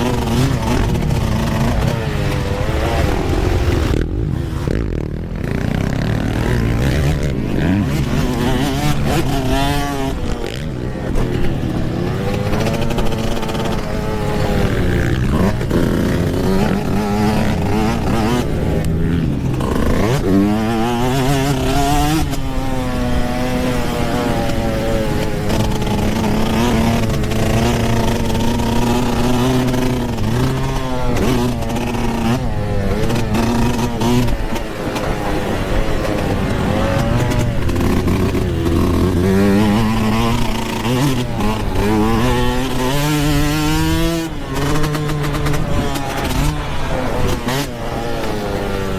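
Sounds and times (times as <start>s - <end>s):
two-stroke motocross engine revving: 0.0s - 48.9s.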